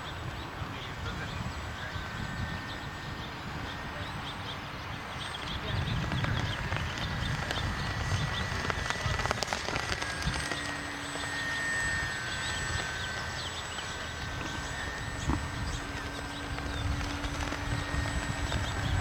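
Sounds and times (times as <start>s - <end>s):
electric motor whine: 0.0s - 19.0s
wind rumbling on microphone: 0.0s - 19.0s.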